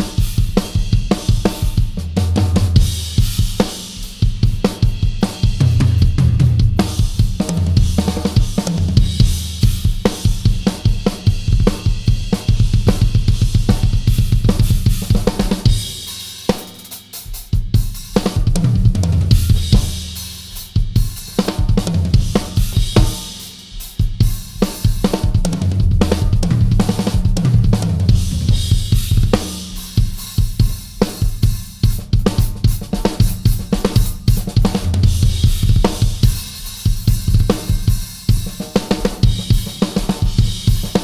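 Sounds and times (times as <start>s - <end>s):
drum kit playing: 0.0s - 41.0s.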